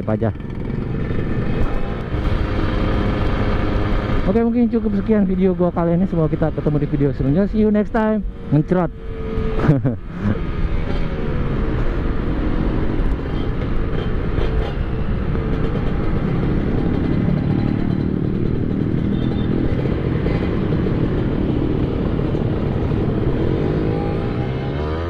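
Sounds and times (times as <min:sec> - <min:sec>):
motorcycle engine running: 0:00.0 - 0:24.8
road noise: 0:00.0 - 0:25.0.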